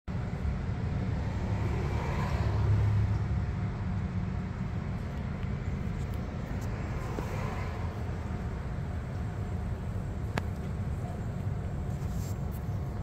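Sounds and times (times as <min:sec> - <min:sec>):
low outdoor rumble: 0:00.1 - 0:13.0.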